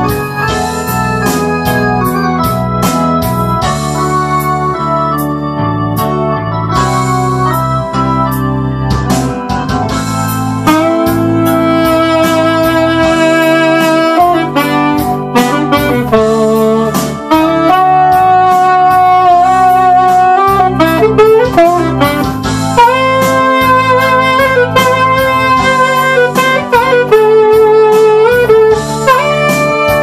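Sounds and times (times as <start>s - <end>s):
saxophone melody: 0.0s - 30.0s
synthesizer keyboard with drums: 0.0s - 30.0s.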